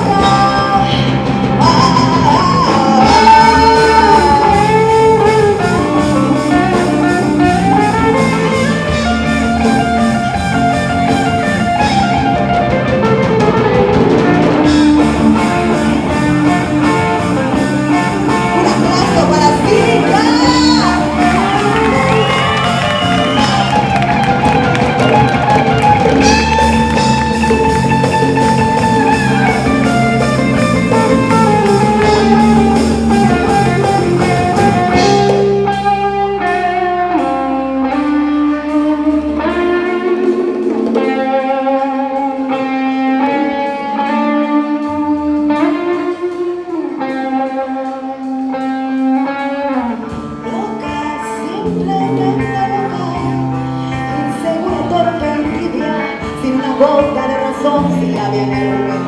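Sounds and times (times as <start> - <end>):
bass guitar: 0.0 - 59.0
drums: 0.0 - 59.0
lead guitar melody: 0.0 - 59.0.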